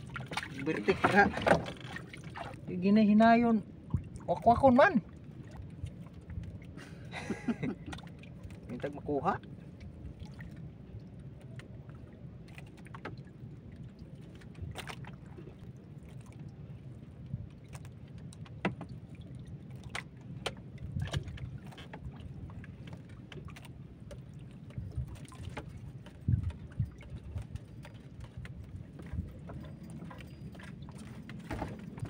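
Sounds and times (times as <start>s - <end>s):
wind and water rumble: 0.0s - 32.0s.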